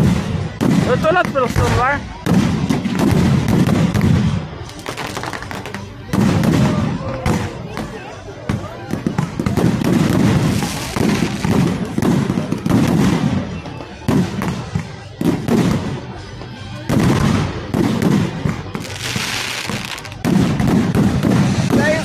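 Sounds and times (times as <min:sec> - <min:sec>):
fireworks crackling hiss: 0:00.0 - 0:07.6, 0:08.9 - 0:22.0
fireworks bangs: 0:00.0 - 0:22.0.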